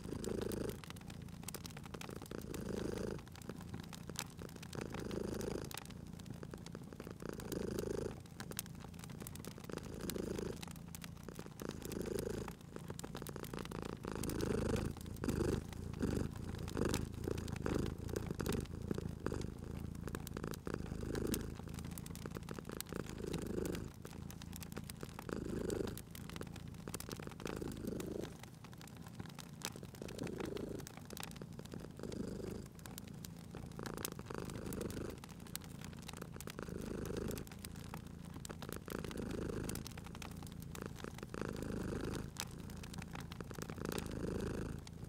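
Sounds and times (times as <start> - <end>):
cat purring: 0.0 - 45.0
wood fire crackling and popping: 0.0 - 45.0.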